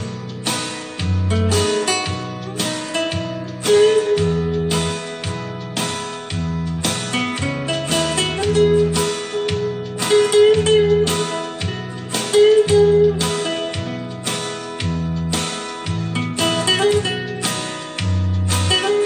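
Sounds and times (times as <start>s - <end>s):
slow held lead melody: 0.0s - 19.0s
steady bass: 0.0s - 19.0s
strummed acoustic guitar: 0.0s - 19.0s.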